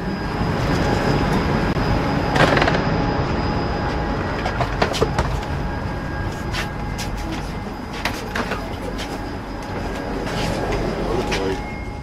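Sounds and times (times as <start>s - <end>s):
electric train humming: 0.0s - 12.0s
platform noise: 0.0s - 12.0s.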